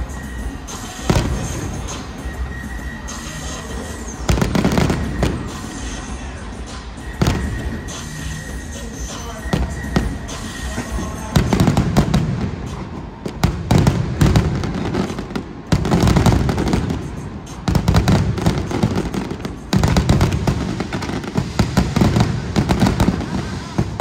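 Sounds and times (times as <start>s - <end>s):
fireworks crackling and booming: 0.0s - 24.0s.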